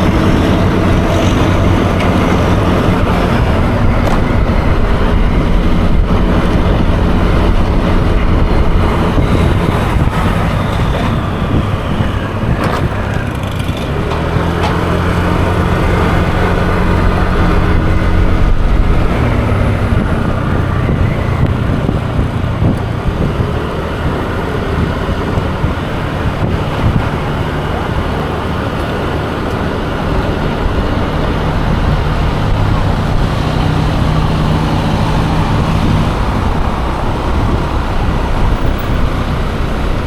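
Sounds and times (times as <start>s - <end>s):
road and wind noise: 0.0s - 40.0s
scooter engine running: 0.0s - 40.0s.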